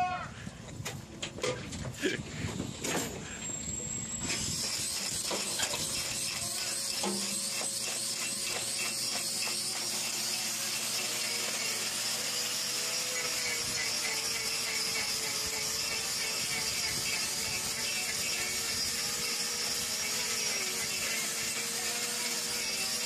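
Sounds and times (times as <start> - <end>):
hoof-trimming equipment hissing: 2.3 - 23.0.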